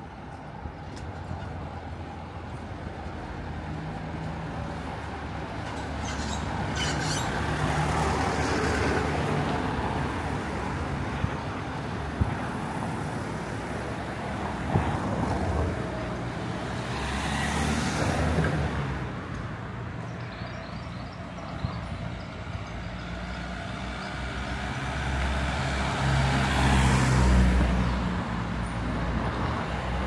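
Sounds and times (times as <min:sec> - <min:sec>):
cars passing: 0:00.0 - 0:30.0.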